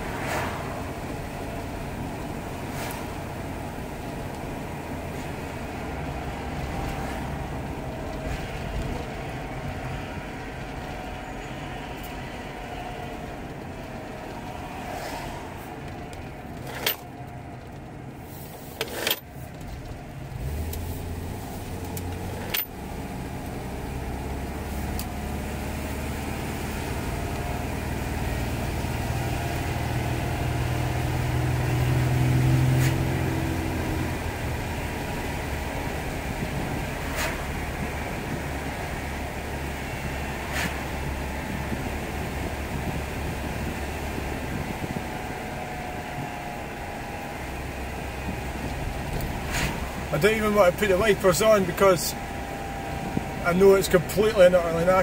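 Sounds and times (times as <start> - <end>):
car engine: 0.0 - 55.0
road rumble: 0.0 - 55.0.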